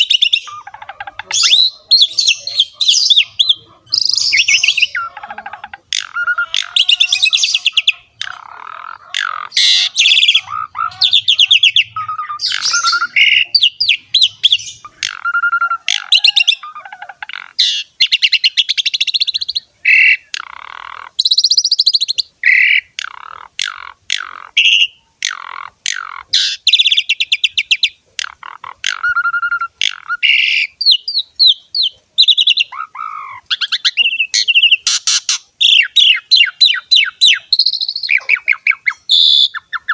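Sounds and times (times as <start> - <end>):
starling singing trills and whistles: 0.0 - 39.9.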